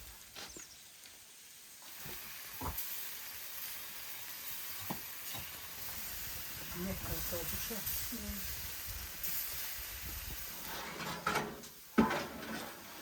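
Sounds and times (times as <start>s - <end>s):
tandoor sizzling hiss: 0.0s - 11.9s.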